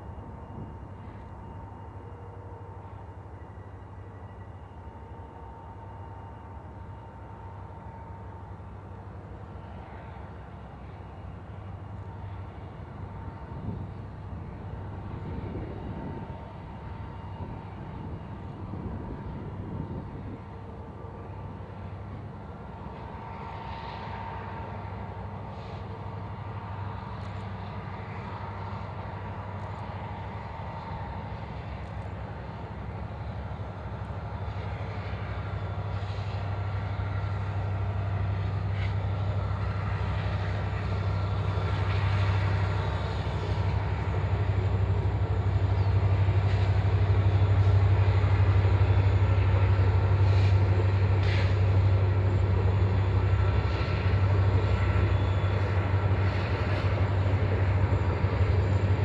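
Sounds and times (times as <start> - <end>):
train locomotive engine drone: 0.0 - 59.0.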